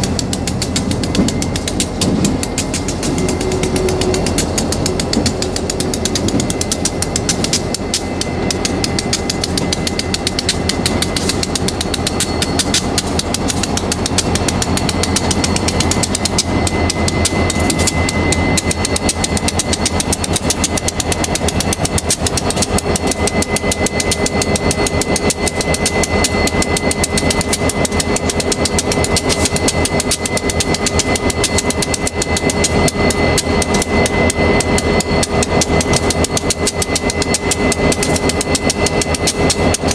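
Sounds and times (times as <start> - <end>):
diesel locomotives pulsing: 0.0 - 39.9
steady high whine: 0.0 - 39.9.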